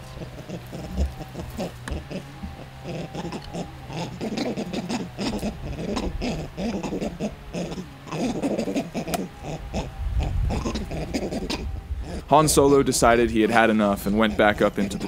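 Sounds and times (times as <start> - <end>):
monkeys making harsh calls: 0.0 - 15.0.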